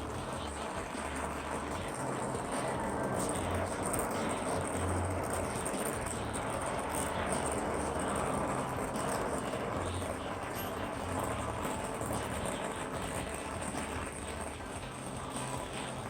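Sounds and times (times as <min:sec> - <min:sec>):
background music with pulsing bass: 0:00.0 - 0:16.0
torch flame hissing: 0:00.0 - 0:16.0.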